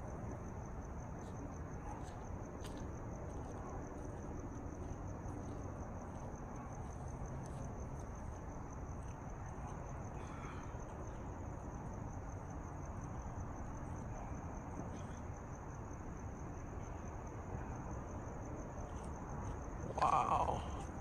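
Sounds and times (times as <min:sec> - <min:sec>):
crickets trilling: 0:00.0 - 0:21.0
low background noise: 0:00.0 - 0:21.0.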